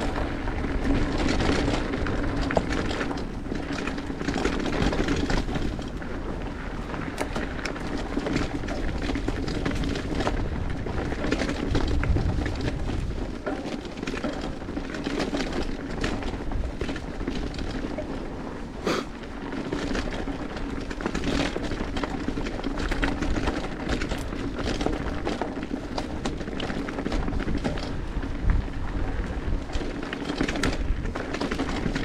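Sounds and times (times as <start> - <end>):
bike clattering and rattling: 0.0 - 32.0
bike tyres rolling over dirt: 0.0 - 32.0
wind noise: 0.0 - 32.0.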